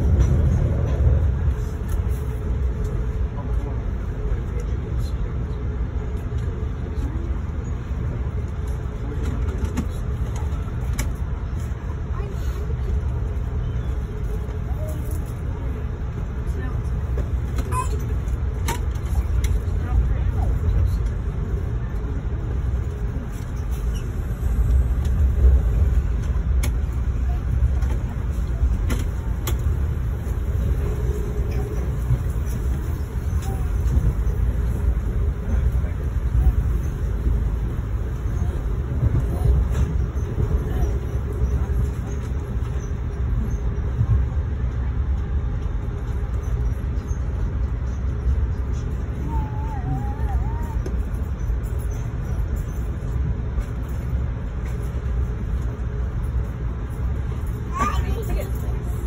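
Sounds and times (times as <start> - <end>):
train rumble from inside coach: 0.0 - 59.0.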